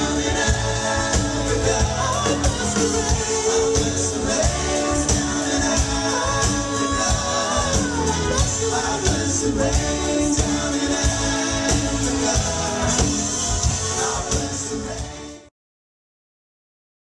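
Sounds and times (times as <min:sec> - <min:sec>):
steady drum beat: 0:00.0 - 0:15.4
live rock band playing: 0:00.0 - 0:15.5
vocals singing: 0:00.0 - 0:15.5.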